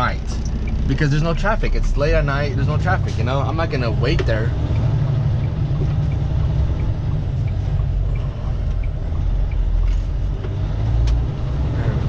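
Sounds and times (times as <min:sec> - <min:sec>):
road noise: 0:00.0 - 0:12.0
truck engine rumble in cab: 0:00.0 - 0:12.0.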